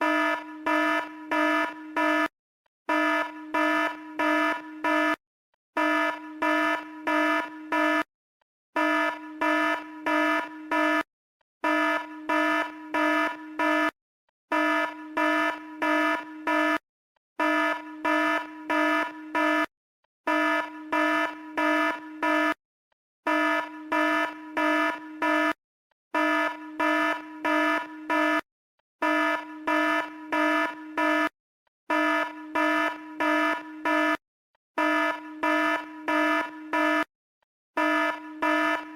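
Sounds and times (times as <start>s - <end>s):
pulsing buzzing alarm: 0.0s - 2.3s, 2.9s - 5.2s, 5.8s - 8.1s, 8.7s - 16.8s, 17.4s - 22.6s, 23.2s - 25.6s, 26.2s - 34.2s, 34.8s - 37.1s, 37.8s - 38.9s.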